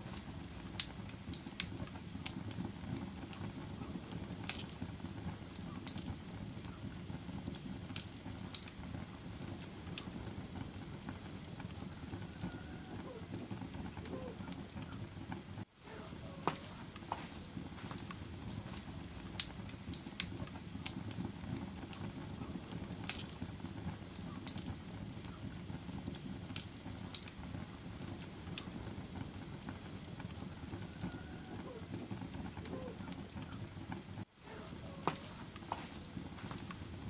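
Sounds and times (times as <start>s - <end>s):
fire crackling: 0.0s - 37.0s
flames rushing: 0.0s - 37.0s.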